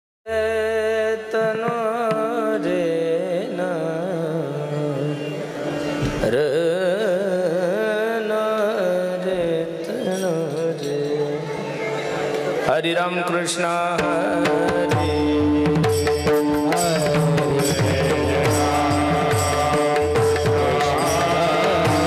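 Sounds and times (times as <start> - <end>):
wordless ornamented singing: 0.3 - 22.0.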